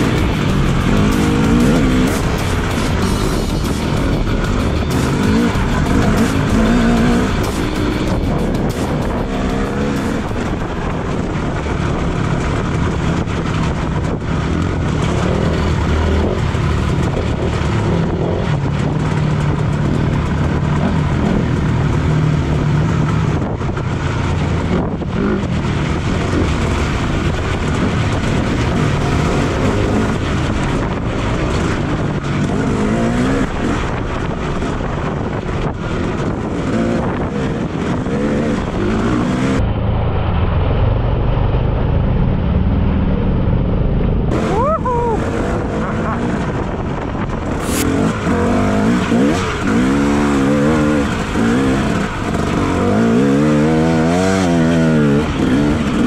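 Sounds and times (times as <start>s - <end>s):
dirt bike engine revving: 0.0s - 40.0s, 44.3s - 56.0s.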